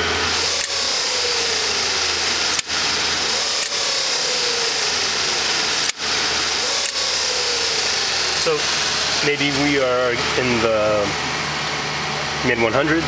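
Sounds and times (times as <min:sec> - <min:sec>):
motor whine sliding down: 0:00.0 - 0:12.5
electric motor whirring: 0:00.0 - 0:12.6.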